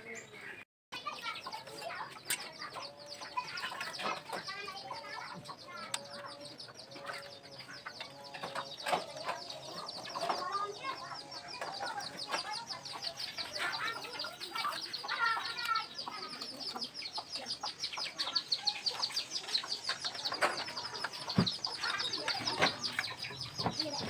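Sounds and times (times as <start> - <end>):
chickens clucking: 0.0 - 24.0
high-pitched chirping: 1.0 - 24.0.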